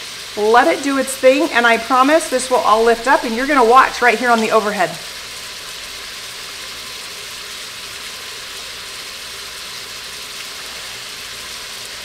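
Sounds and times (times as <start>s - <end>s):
chicken sizzling in butter: 0.0s - 12.0s.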